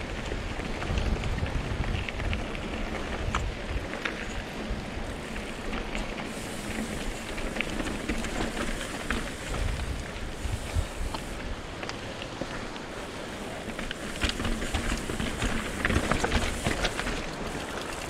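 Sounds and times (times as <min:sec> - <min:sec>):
bike tyre and wind noise: 0:00.0 - 0:18.0
clicks from stones and bike: 0:00.0 - 0:18.0.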